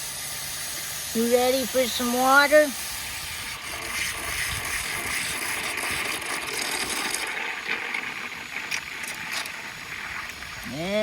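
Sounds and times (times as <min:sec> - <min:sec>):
hose spraying water into bowl: 0:00.0 - 0:11.0.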